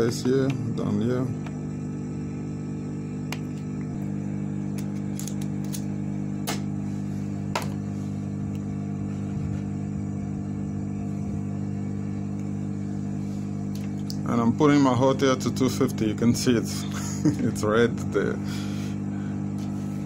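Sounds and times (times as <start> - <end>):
hot air blower humming: 0.0 - 20.0.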